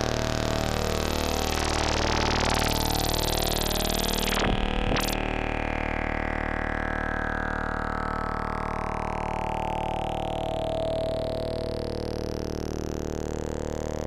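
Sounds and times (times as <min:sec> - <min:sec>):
synthesizer drone: 0:00.0 - 0:14.0.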